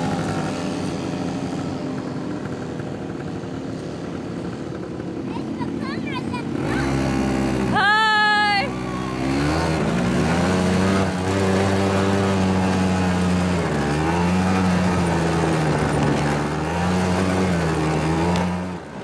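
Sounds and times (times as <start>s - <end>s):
quad bike engine revving: 0.0s - 19.0s.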